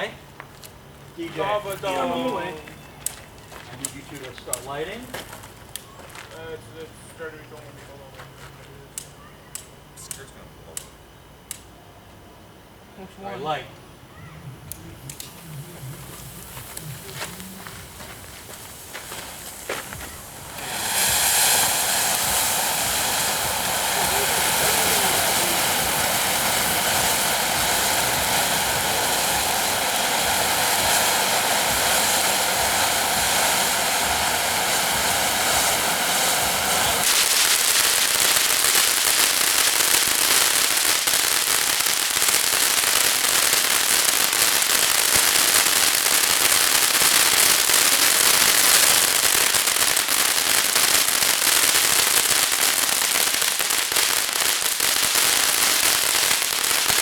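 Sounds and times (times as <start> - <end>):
firework fountain hissing and crackling: 0.0 - 57.0.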